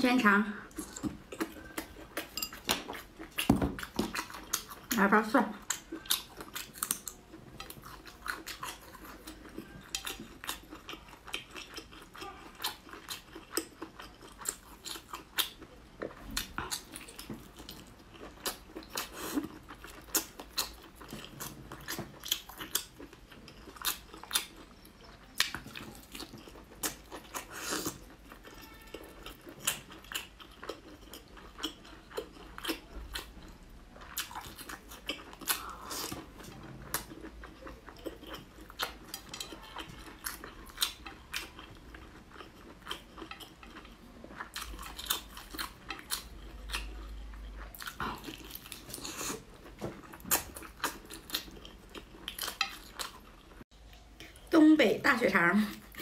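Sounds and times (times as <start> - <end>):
wet chewing and lip-smacking: 0.7 - 54.5.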